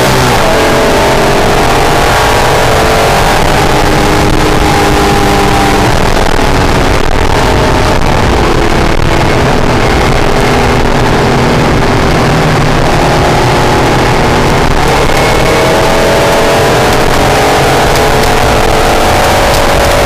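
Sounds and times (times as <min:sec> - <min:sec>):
car engine revving: 0:00.0 - 0:20.0
road and wind rumble: 0:00.0 - 0:20.0.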